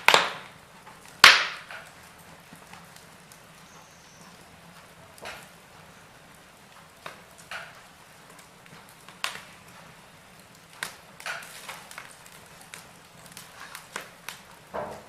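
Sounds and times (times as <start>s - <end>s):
faint fire hiss: 0.0s - 15.0s
wood fire crackling and popping: 0.0s - 15.0s.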